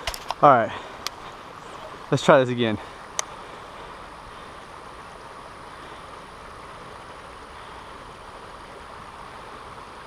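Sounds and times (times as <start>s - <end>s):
creek water running over rocks: 0.0s - 10.0s.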